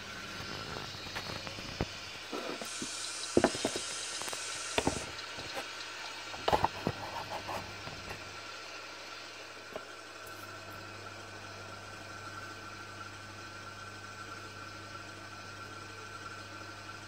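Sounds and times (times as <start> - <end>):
model train motor hum: 0.0 - 17.0.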